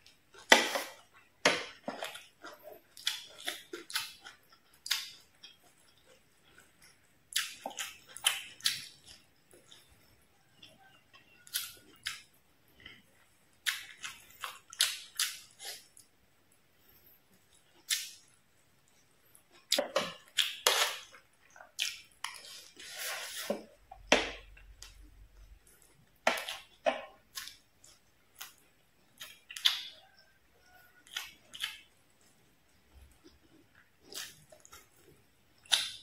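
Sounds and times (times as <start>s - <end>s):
chewing and smacking: 0.0s - 22.8s, 24.0s - 36.0s.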